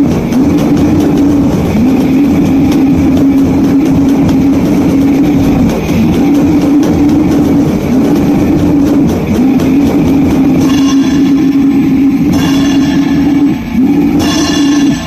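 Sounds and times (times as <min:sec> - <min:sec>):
distorted guitar riffing: 0:00.0 - 0:15.0
drums: 0:00.0 - 0:15.0.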